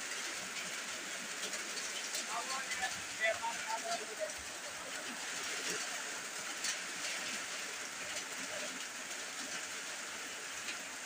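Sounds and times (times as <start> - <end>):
heavy rain on ground and puddles: 0.0 - 11.0.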